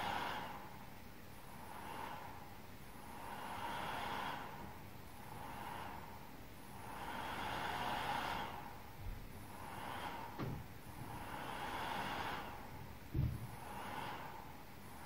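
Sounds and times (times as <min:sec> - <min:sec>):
cooling fan rushing: 0:00.0 - 0:15.0.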